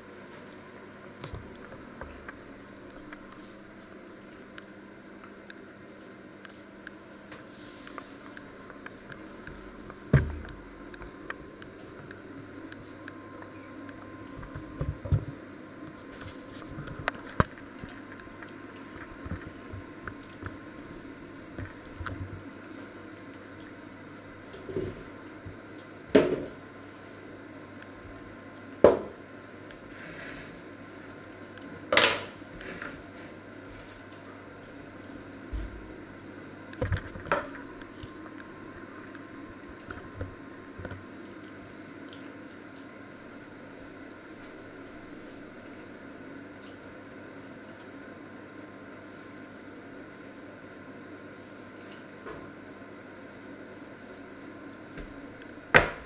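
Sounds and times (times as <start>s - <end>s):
low room hum: 0.0s - 56.0s.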